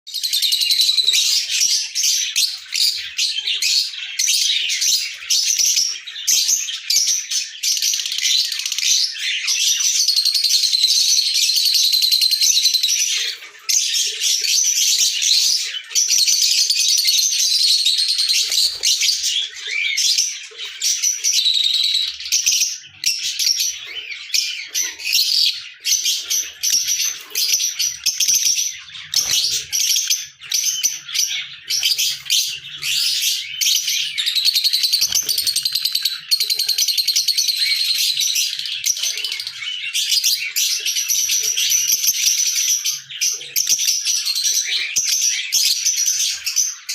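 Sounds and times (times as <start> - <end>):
lovebirds chirping and chattering: 0.1 - 46.9.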